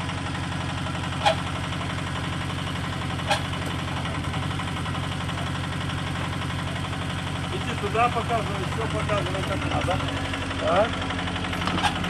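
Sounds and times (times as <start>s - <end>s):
excavator engine idling: 0.0s - 12.0s.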